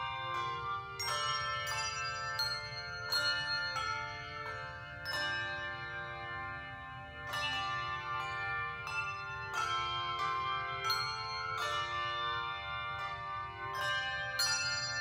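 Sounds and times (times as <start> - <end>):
handbell choir ringing chords: 0.0 - 15.0.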